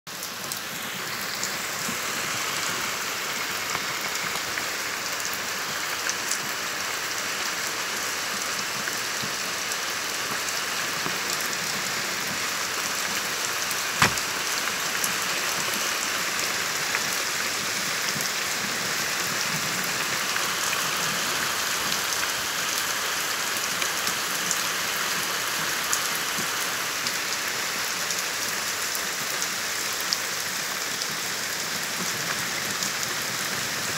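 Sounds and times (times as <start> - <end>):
torrential rain pouring: 0.1 - 33.9.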